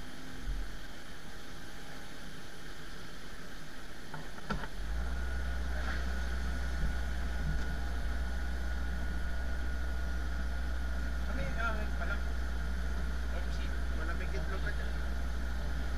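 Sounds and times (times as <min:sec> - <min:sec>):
low engine rumble: 0:00.0 - 0:15.9
thin steady whine: 0:00.0 - 0:15.9.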